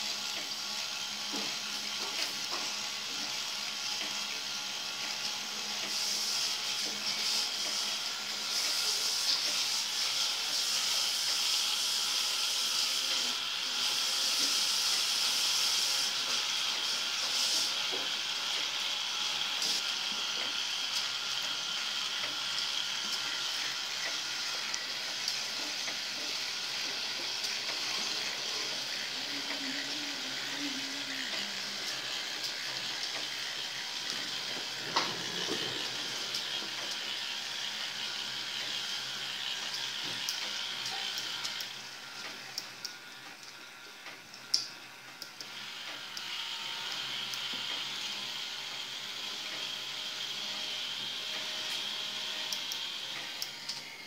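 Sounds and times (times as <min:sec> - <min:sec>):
toy ride motors whirring: 0:00.0 - 0:54.0.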